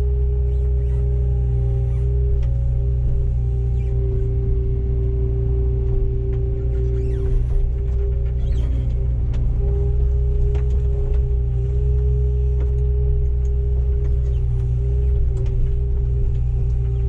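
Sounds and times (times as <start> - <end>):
diesel engine rumble: 0.0 - 17.0
engine whine: 0.0 - 17.0.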